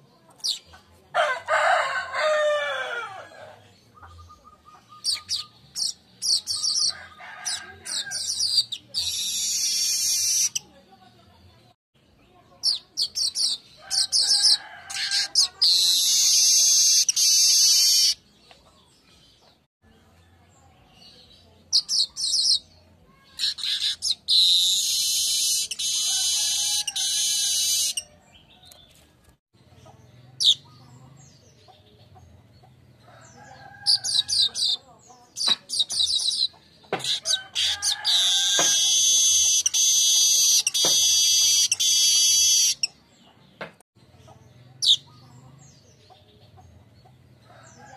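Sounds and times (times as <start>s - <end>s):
weaver bird singing: 3.7s - 10.7s, 12.0s - 47.9s.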